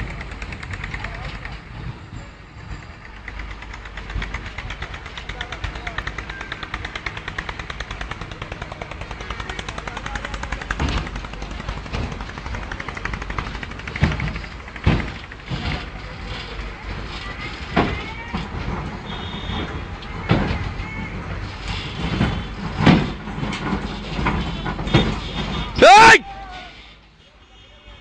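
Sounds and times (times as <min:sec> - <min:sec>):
diesel engine clattering: 0:00.0 - 0:28.0.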